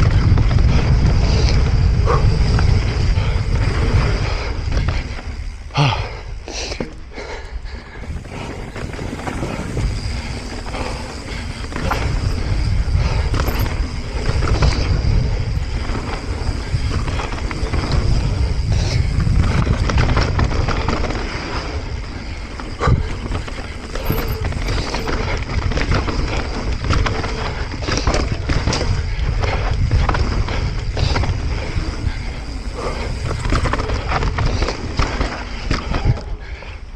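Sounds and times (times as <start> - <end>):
bike clattering over rough ground: 0.0 - 7.1, 8.0 - 36.7
tyre and wind noise: 0.0 - 36.9.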